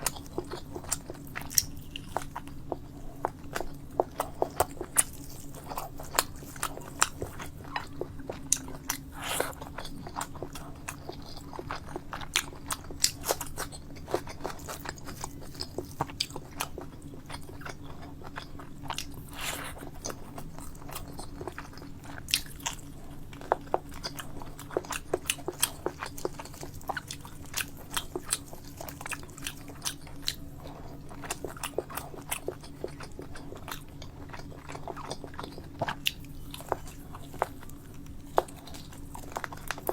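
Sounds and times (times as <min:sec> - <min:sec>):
mouth clicks and crunches: 0:00.0 - 0:39.9
person chewing food: 0:00.0 - 0:39.9.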